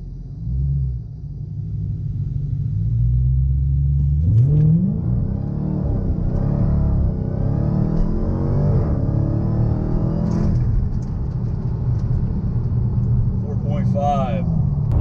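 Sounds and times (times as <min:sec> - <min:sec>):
car engine revving under acceleration: 0:02.9 - 0:15.0.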